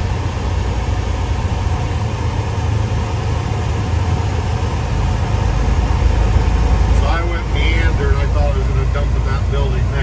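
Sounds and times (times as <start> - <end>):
road noise: 0.0 - 10.0
truck engine rumble: 0.0 - 10.0.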